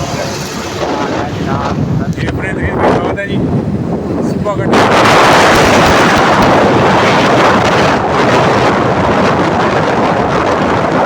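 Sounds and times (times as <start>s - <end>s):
wind rushing across microphone: 0.0s - 11.0s.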